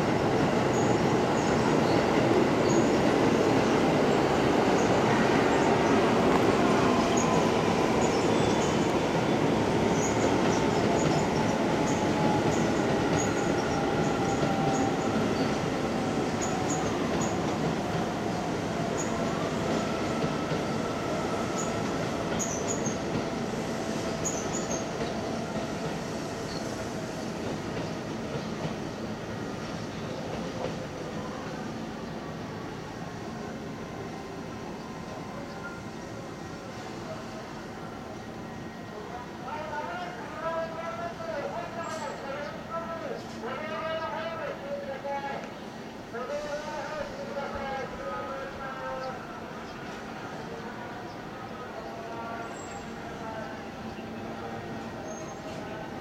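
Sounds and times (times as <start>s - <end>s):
electric train rumbling on rails: 0.0s - 56.0s.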